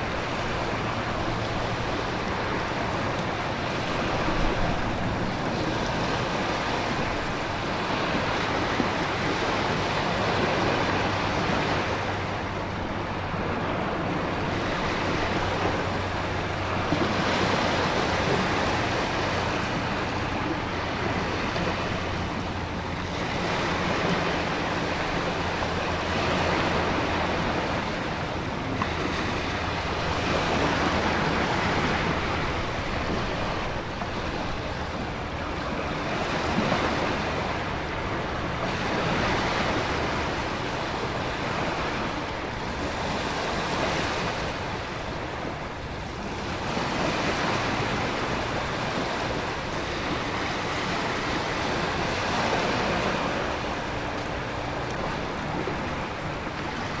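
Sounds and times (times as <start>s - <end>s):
low steady rumble: 0.0s - 57.0s
ocean waves breaking: 0.0s - 57.0s
wind: 0.0s - 57.0s.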